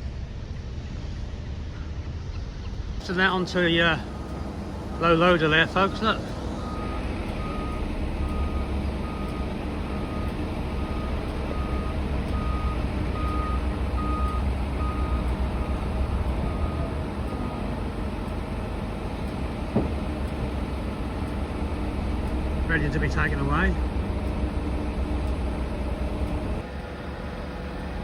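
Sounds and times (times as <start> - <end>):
low engine rumble: 0.0 - 28.0
reversing alarm beeping: 3.0 - 26.6.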